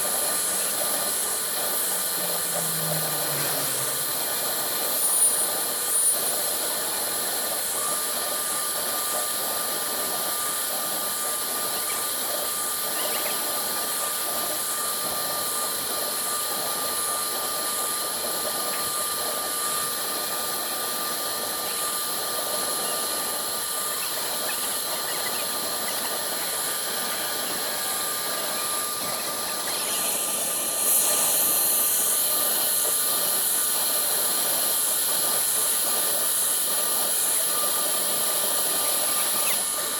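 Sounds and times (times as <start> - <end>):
cnc router whining and cutting: 0.0 - 39.9.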